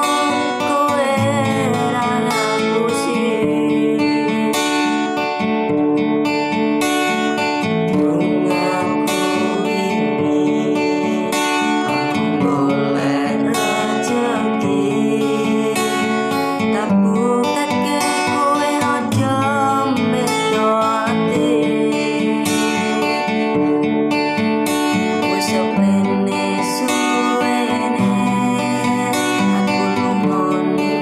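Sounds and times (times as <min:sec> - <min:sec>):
bending guitar melody: 0:00.0 - 0:31.0
strummed acoustic guitar: 0:00.0 - 0:31.0.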